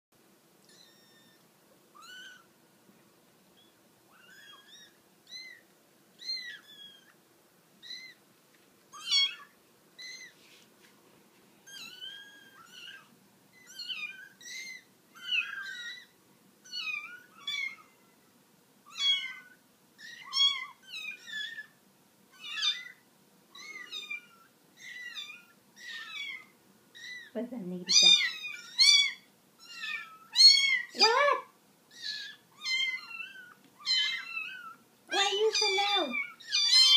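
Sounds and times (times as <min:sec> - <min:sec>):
kittens mewing: 0:00.6 - 0:02.5, 0:03.6 - 0:05.6, 0:06.2 - 0:07.2, 0:07.8 - 0:08.2, 0:08.9 - 0:10.4, 0:11.6 - 0:18.1, 0:18.8 - 0:36.9.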